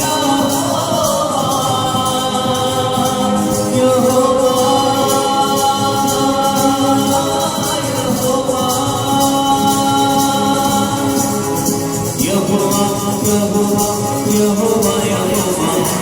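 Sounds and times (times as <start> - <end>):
group singing worship song: 0.0 - 16.0
musical accompaniment: 0.0 - 16.0.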